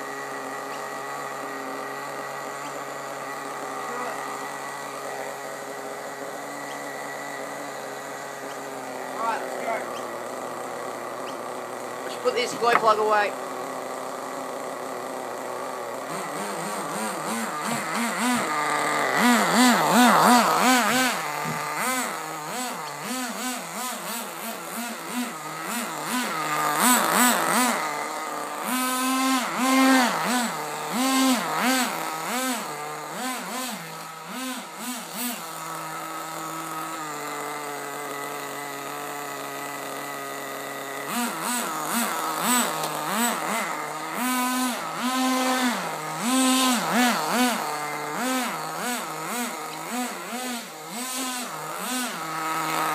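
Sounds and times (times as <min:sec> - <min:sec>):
model car nitro engine revving: 0:00.0 - 0:52.9.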